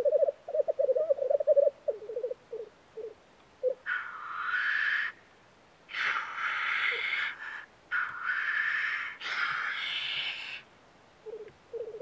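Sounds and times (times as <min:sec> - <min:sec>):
black grouse hissing calls: 0:00.0 - 0:05.2, 0:05.9 - 0:12.0.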